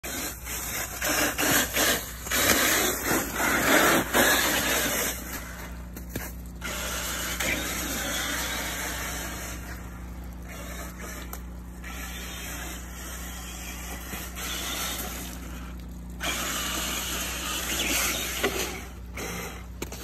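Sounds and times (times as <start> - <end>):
toy car electric motor whirring: 0.0 - 20.0
tyres churning through slush: 0.0 - 20.0.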